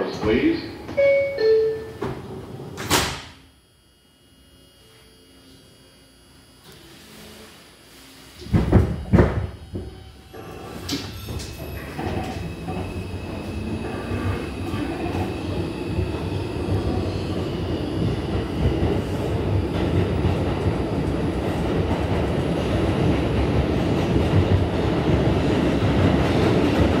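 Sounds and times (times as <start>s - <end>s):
subway train motor and wheel rumble: 0.0s - 27.0s.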